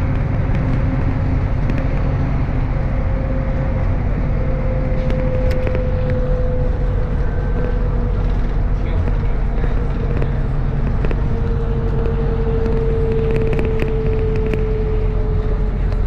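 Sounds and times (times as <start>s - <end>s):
bus engine and road rumble: 0.0s - 16.0s
steady whine: 0.0s - 16.0s.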